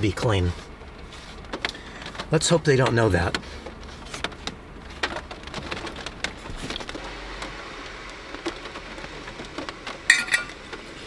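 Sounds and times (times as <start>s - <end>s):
rain on a vehicle roof: 0.0s - 11.0s.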